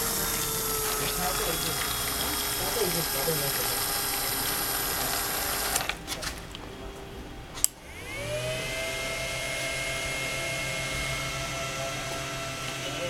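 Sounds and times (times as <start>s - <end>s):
small electric motor whining: 0.0s - 6.1s, 7.7s - 13.0s.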